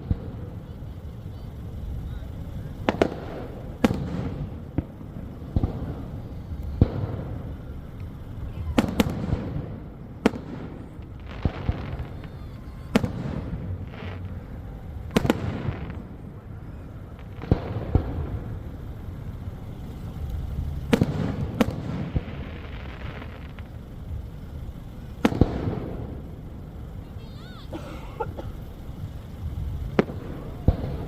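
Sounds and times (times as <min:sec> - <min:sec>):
fireworks bursting with bangs: 0:00.0 - 0:31.0
steady low rumble: 0:00.0 - 0:31.0.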